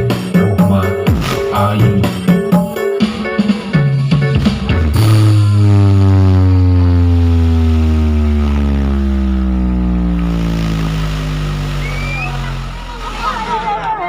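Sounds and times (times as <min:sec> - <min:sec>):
deep bass tone falling in pitch: 0:00.0 - 0:02.8, 0:03.8 - 0:14.0.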